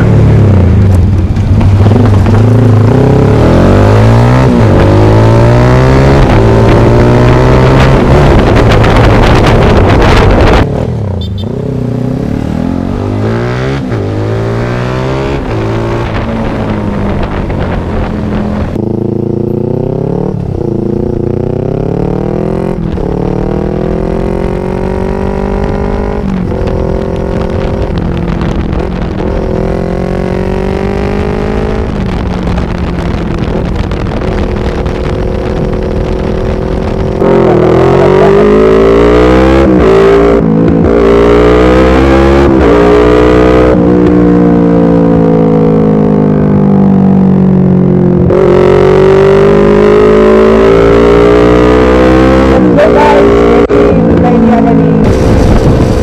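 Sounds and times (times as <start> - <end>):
wind rush: 0.0 - 11.2, 11.8 - 45.9, 48.1 - 56.0
motorcycle engine accelerating: 0.0 - 56.0.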